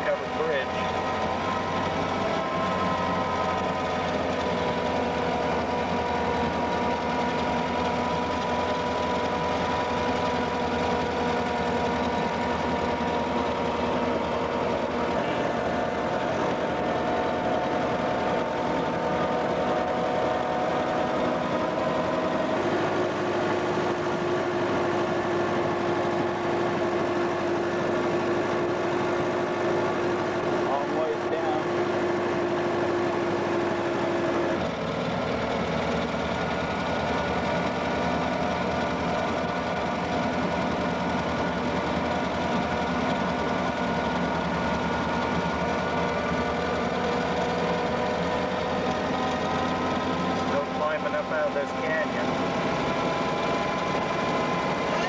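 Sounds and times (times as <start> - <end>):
car engine drone with whine: 0.0 - 55.0.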